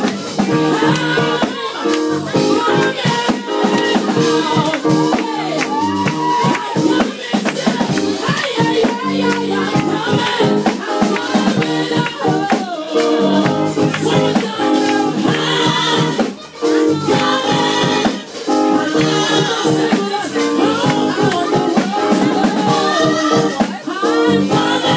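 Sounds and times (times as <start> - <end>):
gospel voices singing: 0.0 - 24.9
percussion beat: 0.0 - 24.9.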